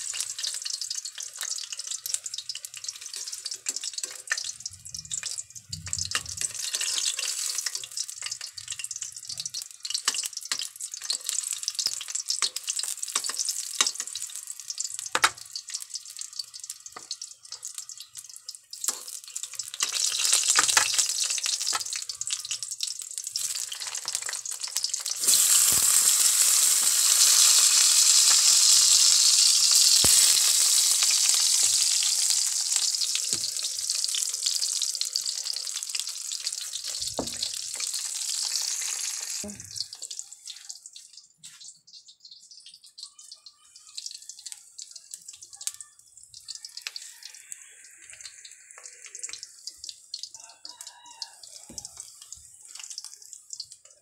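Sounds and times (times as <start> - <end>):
oil crackling: 0.0 - 50.3, 50.9 - 54.0
eggplant sizzling in hot oil: 0.0 - 54.0.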